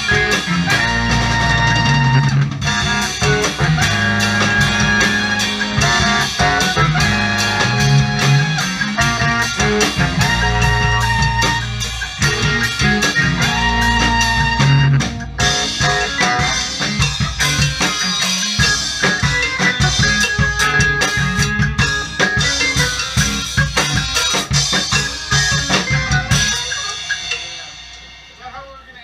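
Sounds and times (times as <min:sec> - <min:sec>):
saxophones: 0:00.0 - 0:28.0
electric guitars: 0:00.0 - 0:28.2
drum kit: 0:00.0 - 0:29.0
keyboard: 0:00.0 - 0:29.0.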